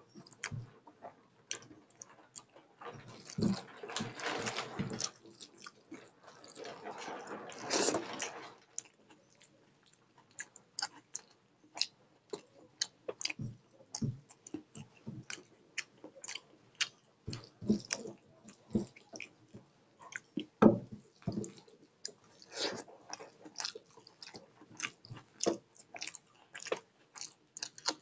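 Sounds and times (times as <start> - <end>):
close-up wet chewing: 0.1 - 0.7, 1.5 - 28.0.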